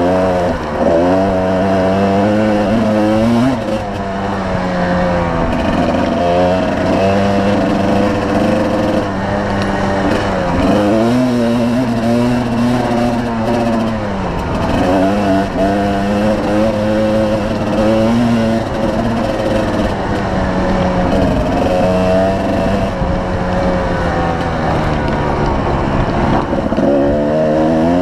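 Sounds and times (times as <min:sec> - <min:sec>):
two-stroke motorbike engine revving: 0:00.0 - 0:28.0.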